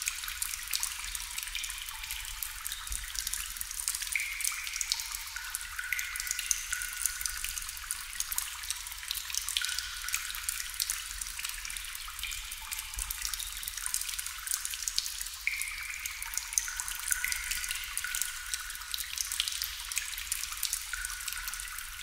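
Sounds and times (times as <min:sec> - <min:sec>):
water drops dripping into water: 0:00.0 - 0:22.0.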